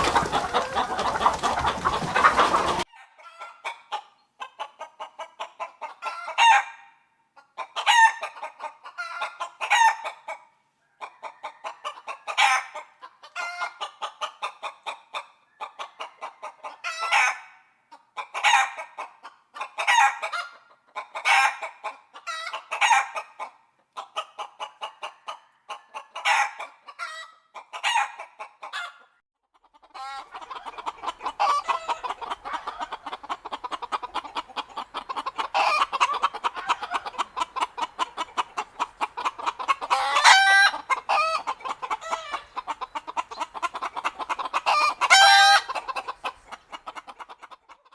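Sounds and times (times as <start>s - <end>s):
chickens clucking: 0.0s - 6.8s, 7.4s - 47.9s.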